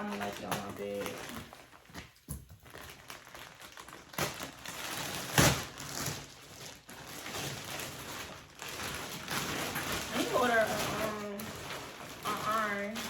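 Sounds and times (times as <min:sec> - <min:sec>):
packaging rustling: 0:00.0 - 0:13.0.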